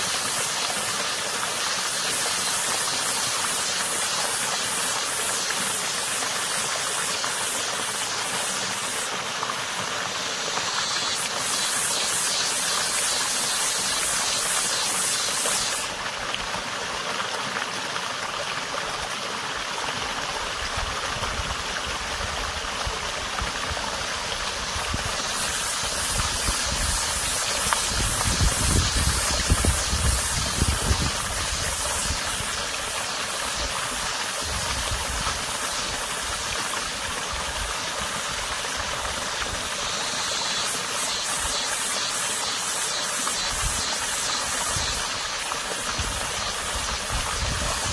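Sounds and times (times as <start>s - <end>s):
cicadas buzzing: 0.0s - 16.1s, 23.7s - 47.9s
small stream running: 0.0s - 47.9s.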